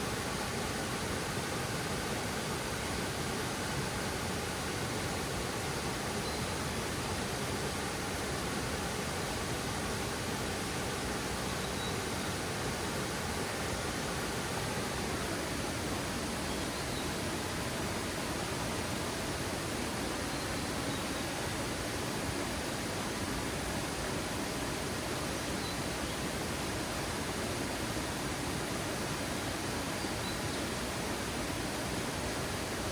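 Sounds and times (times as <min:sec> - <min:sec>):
waterfall rushing: 0:00.1 - 0:32.9.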